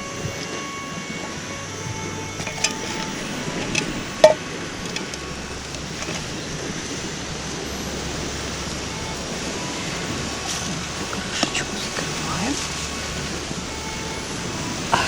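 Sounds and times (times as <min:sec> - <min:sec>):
lake waves: 0:00.0 - 0:15.0
wind: 0:00.0 - 0:15.0.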